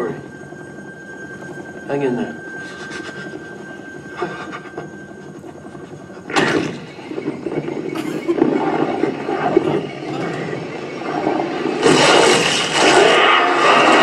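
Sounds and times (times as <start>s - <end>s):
helicopter noise: 0.0s - 14.0s.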